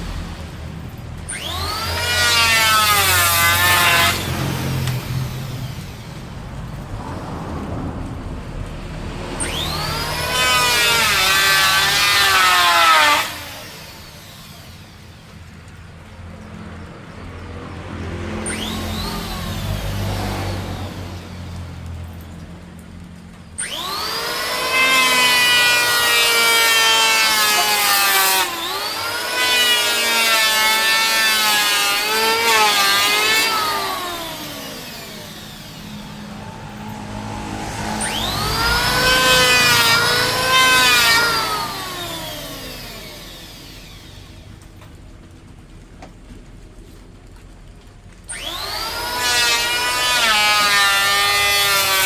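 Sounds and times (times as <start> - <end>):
power tool cutting wood: 0.0 - 7.4, 8.0 - 45.0, 48.2 - 52.0.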